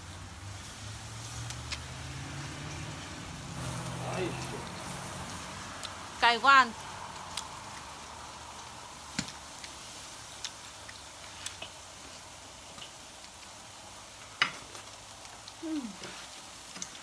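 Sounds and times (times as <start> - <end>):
faint sizzle of food grilling: 0.0 - 17.0.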